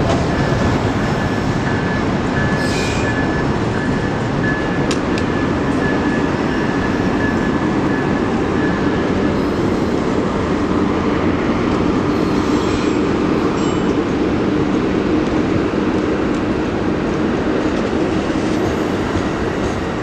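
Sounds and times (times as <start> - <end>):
train rolling rumble: 0.0 - 20.0.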